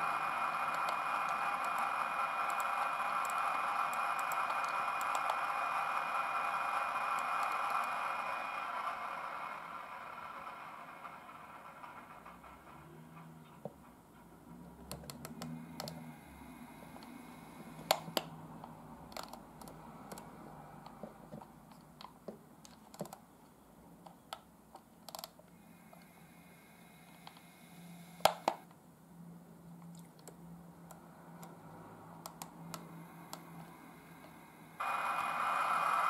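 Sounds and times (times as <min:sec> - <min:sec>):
faint low motor hum: 0:00.0 - 0:36.0.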